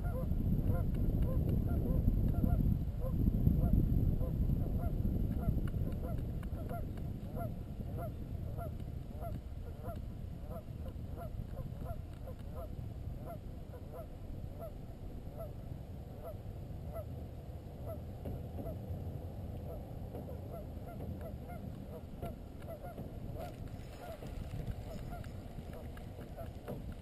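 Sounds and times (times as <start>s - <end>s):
low rumble of wind and water: 0.0s - 27.0s.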